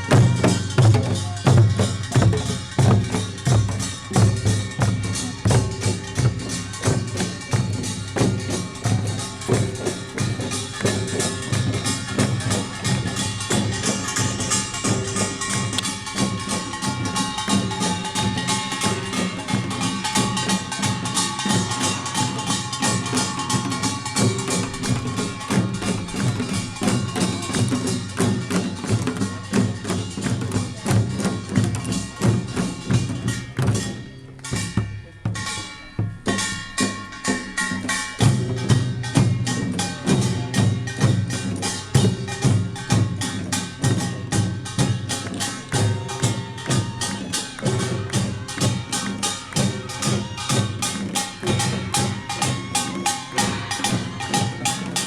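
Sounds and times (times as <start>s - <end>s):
drums: 0.0s - 55.0s
small gongs clanging: 0.0s - 55.0s.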